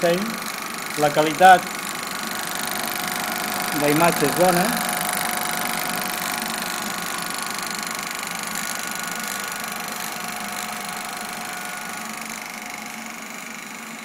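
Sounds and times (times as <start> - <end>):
film projector clattering: 0.0 - 14.0.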